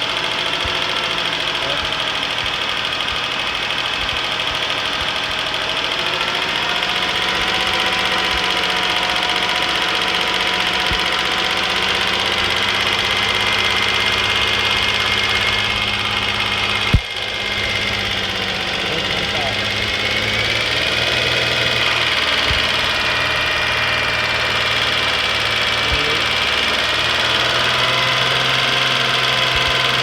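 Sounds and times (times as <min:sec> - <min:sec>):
car engine running with ticking: 0:00.0 - 0:30.0.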